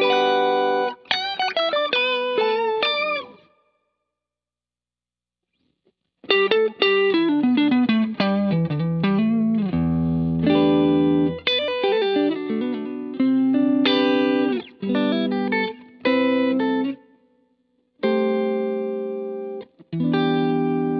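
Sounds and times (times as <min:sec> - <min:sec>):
electric guitar with octave effect: 0:00.0 - 0:03.8, 0:06.2 - 0:20.9.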